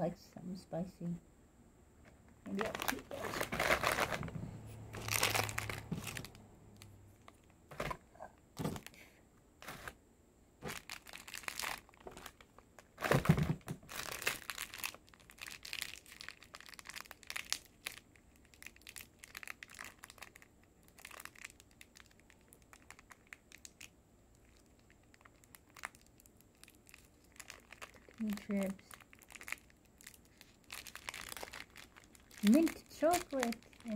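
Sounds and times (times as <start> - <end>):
plastic wrapper crinkling and tearing: 2.5 - 8.0, 9.6 - 10.0, 10.6 - 33.9.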